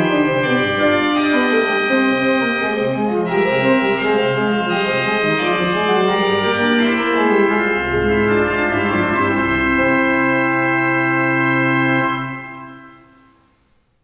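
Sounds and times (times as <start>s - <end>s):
low organ bass notes: 0.0s - 13.4s
organ chords: 0.0s - 13.5s.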